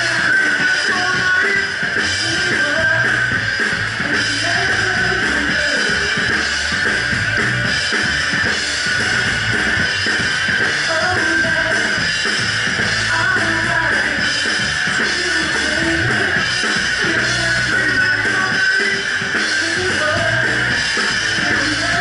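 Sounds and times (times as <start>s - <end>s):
drum kit: 0.0s - 22.0s
electric guitars: 0.0s - 22.0s
rock band playing live: 0.0s - 22.0s.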